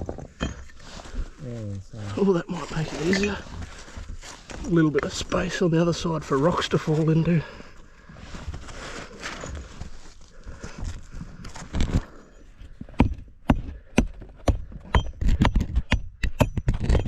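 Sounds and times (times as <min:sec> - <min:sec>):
rock and rubble scraping: 0:00.0 - 0:17.0.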